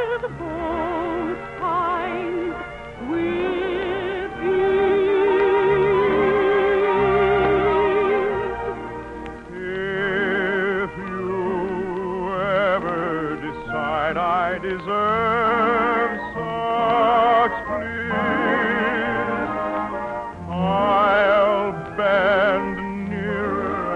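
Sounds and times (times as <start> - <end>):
musical accompaniment: 0.0 - 23.9
operatic soprano singing: 0.0 - 23.9.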